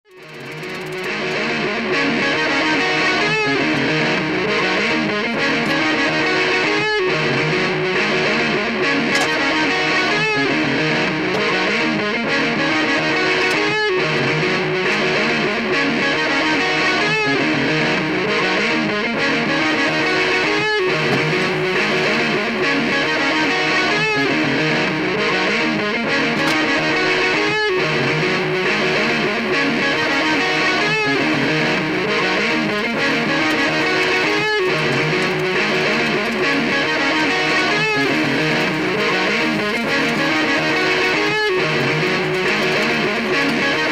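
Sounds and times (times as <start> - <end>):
distorted electric guitar riff: 0.0 - 43.9.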